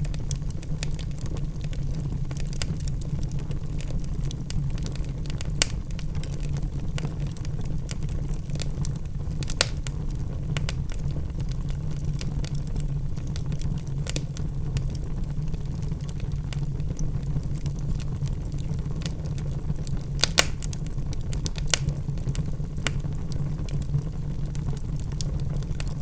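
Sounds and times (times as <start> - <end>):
low rumble of fire: 0.0 - 26.0
wood fire crackling and popping: 0.0 - 26.0.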